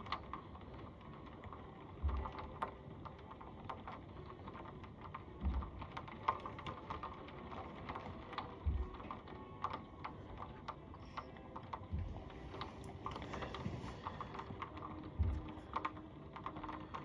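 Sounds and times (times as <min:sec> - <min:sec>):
rain falling: 0:00.0 - 0:17.0
raindrops ticking on a window: 0:00.0 - 0:17.0.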